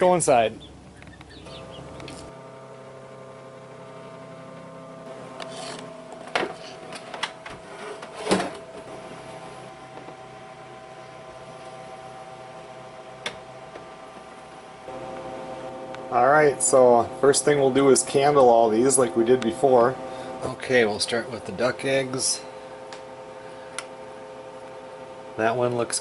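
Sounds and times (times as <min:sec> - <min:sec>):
egg incubators humming: 0:00.0 - 0:26.0.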